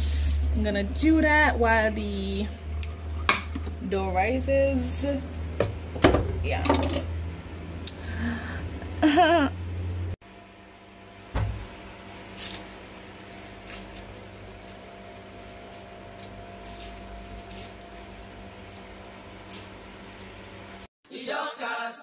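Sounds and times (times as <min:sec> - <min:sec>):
low electrical hum: 0:00.0 - 0:20.9.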